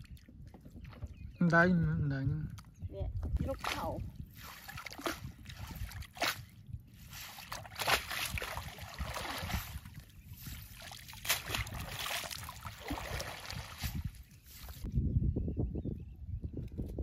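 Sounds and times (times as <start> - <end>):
water sloshing and splashing: 0.0 - 1.3, 2.6 - 14.9.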